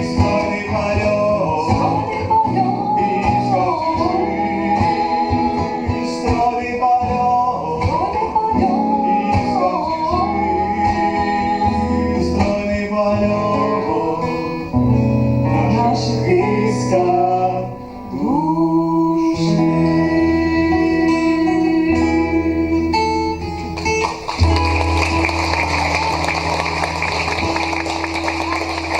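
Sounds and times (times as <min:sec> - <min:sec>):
person singing: 0:00.0 - 0:23.7
acoustic guitar: 0:00.0 - 0:28.9.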